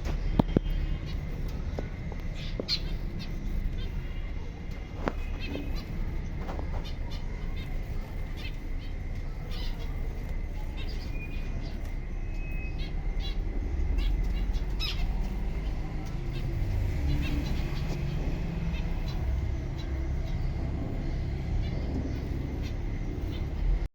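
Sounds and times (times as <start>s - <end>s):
finches chirping: 0.0s - 23.9s
steady low rumble: 0.0s - 23.9s.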